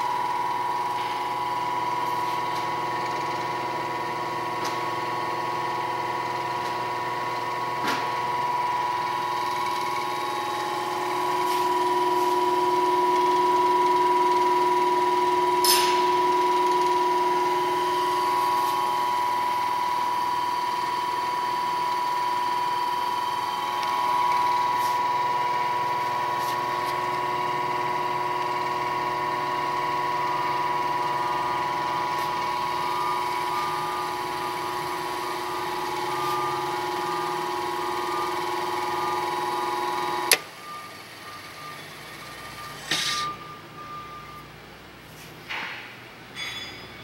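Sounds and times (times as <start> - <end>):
mixer motor whine: 0.0 - 44.5.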